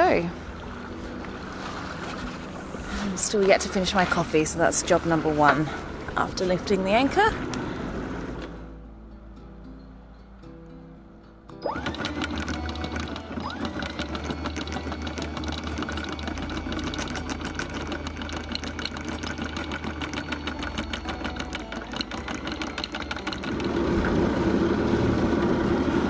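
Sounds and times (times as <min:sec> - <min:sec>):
boat engine running: 0:00.0 - 0:08.8, 0:11.6 - 0:26.0
windlass motor humming: 0:00.0 - 0:08.8, 0:11.6 - 0:26.0.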